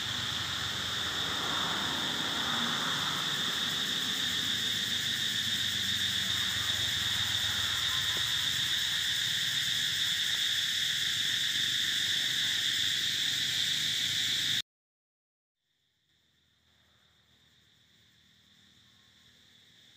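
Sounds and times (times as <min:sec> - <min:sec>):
insect chorus drone: 0:00.0 - 0:14.6, 0:15.7 - 0:19.9.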